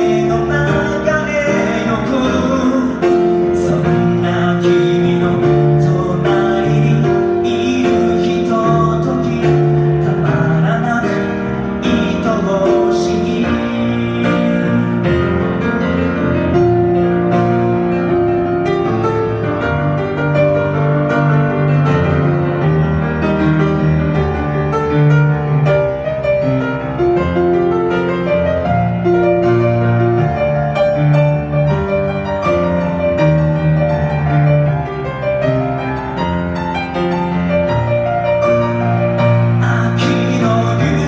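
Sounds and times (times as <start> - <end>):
pop ballad piano: 0.0 - 41.0.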